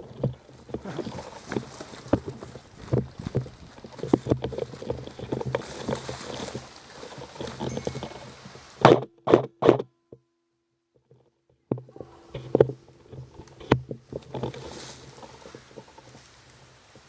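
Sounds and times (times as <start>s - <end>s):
camera handling rustling: 0.0s - 9.8s, 12.3s - 16.2s.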